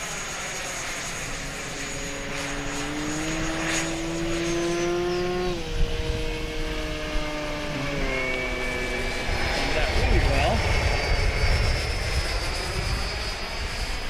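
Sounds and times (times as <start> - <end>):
electric ducted fans whining: 0.0 - 14.0.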